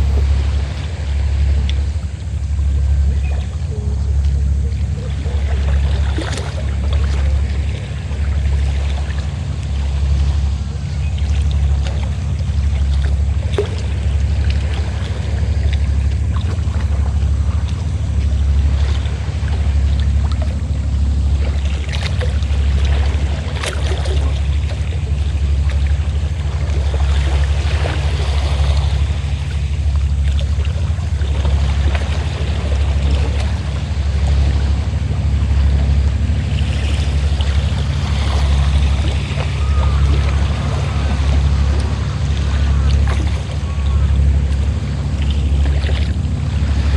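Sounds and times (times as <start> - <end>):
boat engine humming: 0.0 - 46.9
sea waves splashing: 0.0 - 46.9.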